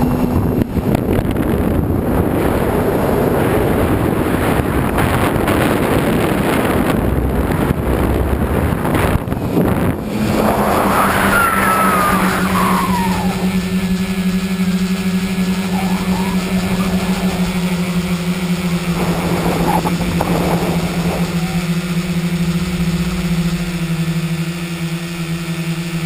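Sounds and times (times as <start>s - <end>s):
steady motor hum: 0.0s - 26.0s
wind and propeller rush: 0.0s - 26.0s.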